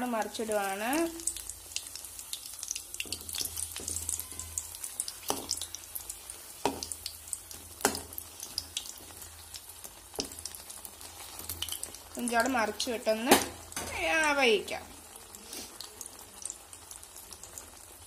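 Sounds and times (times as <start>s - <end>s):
fritters frying in hot oil: 0.0s - 18.0s.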